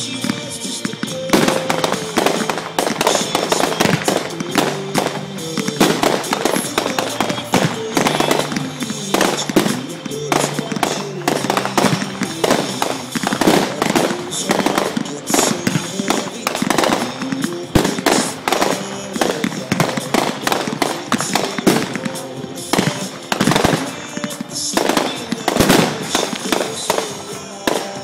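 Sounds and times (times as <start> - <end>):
fireworks bursting and crackling: 0.0 - 28.0
music playing: 0.0 - 28.0.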